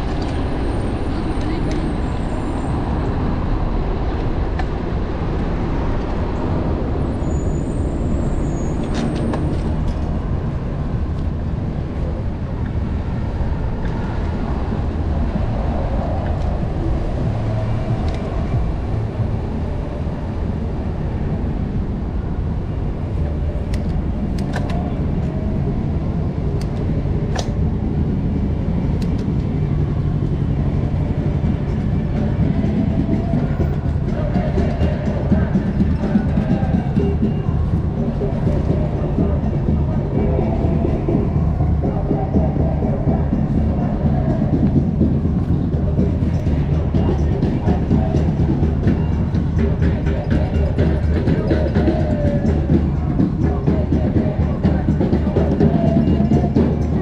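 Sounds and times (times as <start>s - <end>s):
street traffic rumble: 0.0s - 57.0s
wind on microphone: 0.0s - 57.0s.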